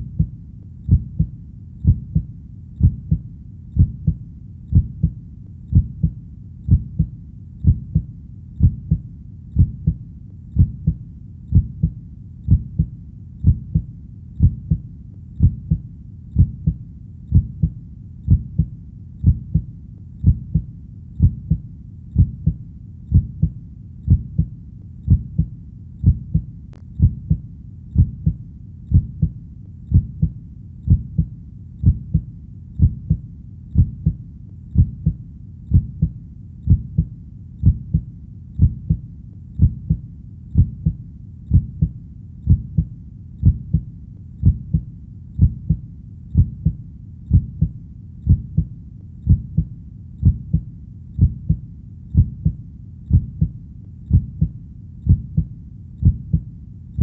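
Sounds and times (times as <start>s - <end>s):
heartbeat: 0.0s - 57.0s.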